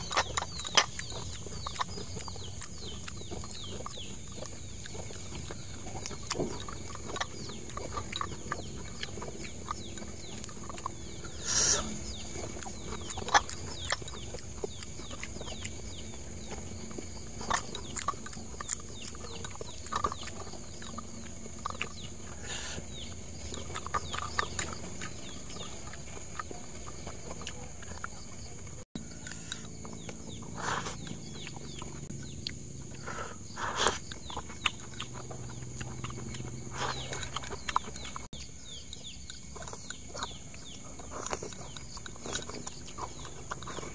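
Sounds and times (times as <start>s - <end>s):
person chewing: 0.0s - 43.9s.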